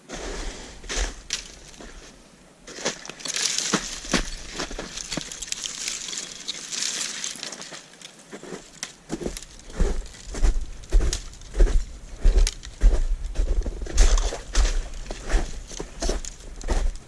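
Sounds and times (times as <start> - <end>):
footsteps crunching on ground: 0.1 - 17.0.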